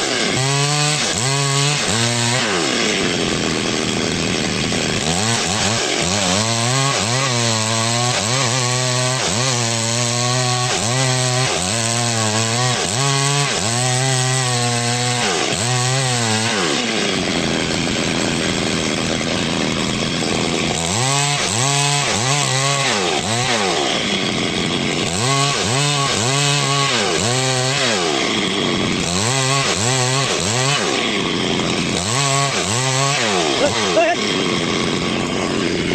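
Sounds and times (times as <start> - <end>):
chainsaw engine running: 0.0 - 35.9.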